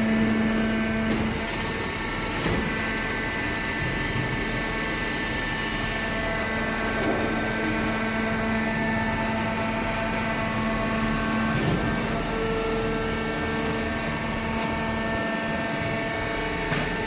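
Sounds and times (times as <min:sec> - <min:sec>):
baler machine hum: 0:00.0 - 0:17.0
whining motor and pump tones: 0:00.0 - 0:17.0.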